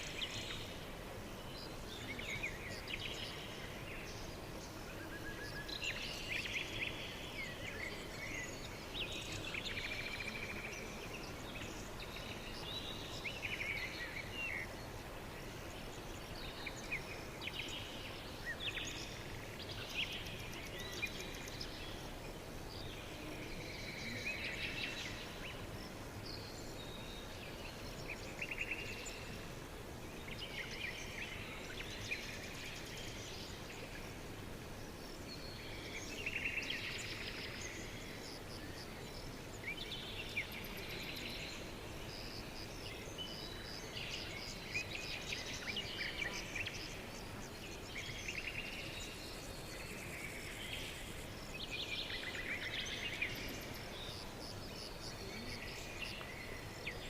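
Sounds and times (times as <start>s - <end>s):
songbirds singing: 0.0s - 57.0s
steady background hiss: 0.0s - 57.0s.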